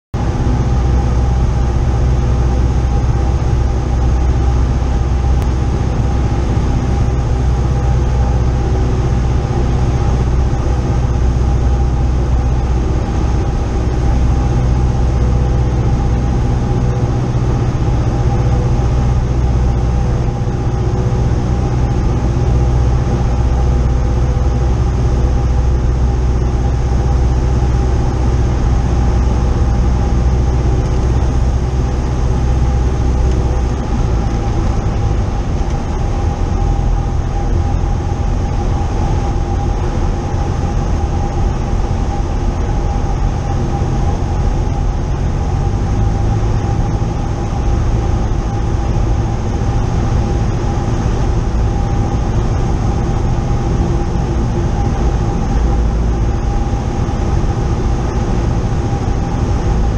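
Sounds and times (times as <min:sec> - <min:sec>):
light plane engine droning: 0:00.2 - 0:59.9.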